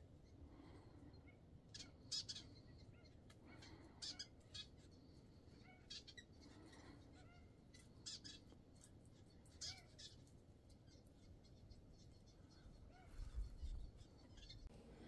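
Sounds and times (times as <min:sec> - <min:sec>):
bird chirping: 0:00.1 - 0:14.7.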